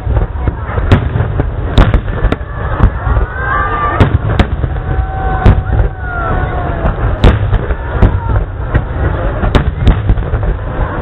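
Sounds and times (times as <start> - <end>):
low rumble of explosions: 0.0 - 11.0.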